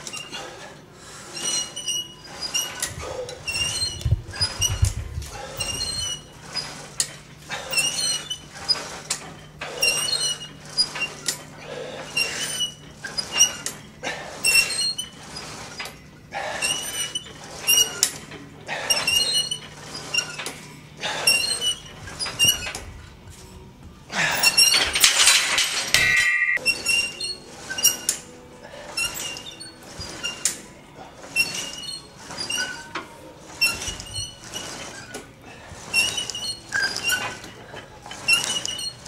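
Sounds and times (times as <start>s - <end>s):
cable machine pulleys squeaking: 0.0s - 39.0s.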